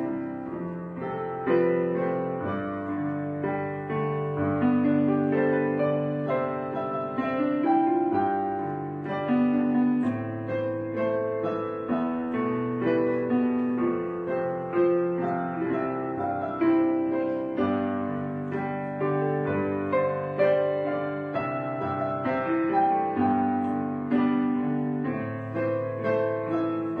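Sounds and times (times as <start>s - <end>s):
piano melody: 0.0s - 27.0s.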